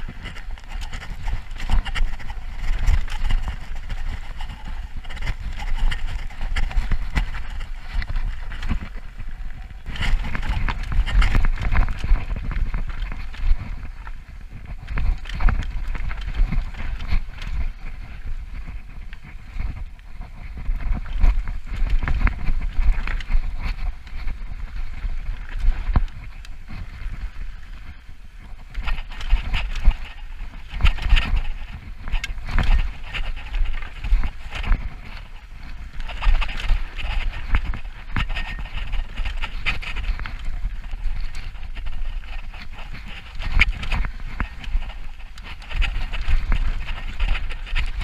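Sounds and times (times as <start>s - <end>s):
bike rattling and clattering: 0.0s - 48.0s
bike tyres on dirt and rocks: 0.0s - 48.0s
wind rumble on microphone: 0.0s - 48.0s.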